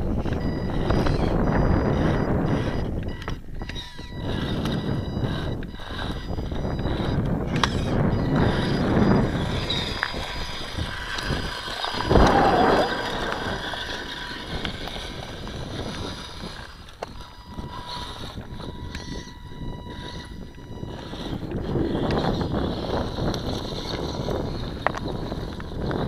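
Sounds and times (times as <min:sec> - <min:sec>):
faint steady high whine: 0:00.0 - 0:26.0
wind buffeting microphone: 0:00.0 - 0:26.0.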